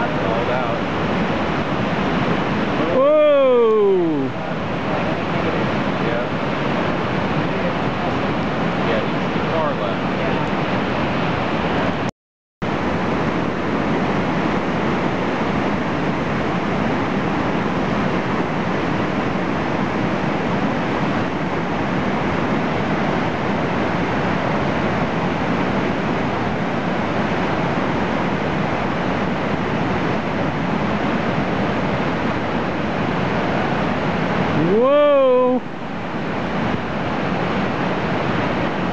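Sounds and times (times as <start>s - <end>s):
whitewater rushing: 0.0s - 12.1s, 12.7s - 38.9s.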